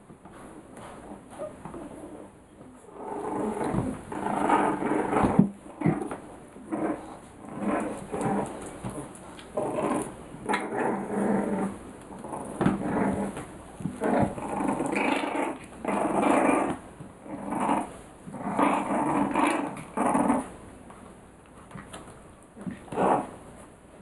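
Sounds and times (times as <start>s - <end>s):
puppies growling: 1.0s - 20.6s, 22.6s - 23.4s.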